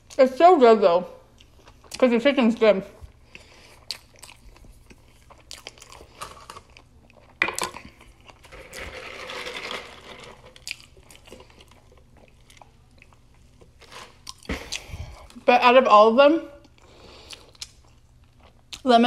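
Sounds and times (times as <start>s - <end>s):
chewing and crunching sandwich: 1.2s - 2.1s, 3.1s - 15.4s, 16.6s - 18.9s.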